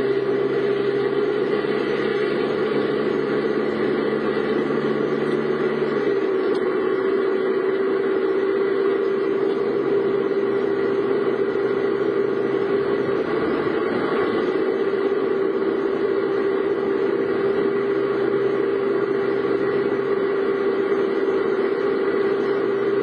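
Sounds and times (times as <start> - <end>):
car engine and road noise: 0.0 - 23.0
low engine hum: 0.0 - 23.0.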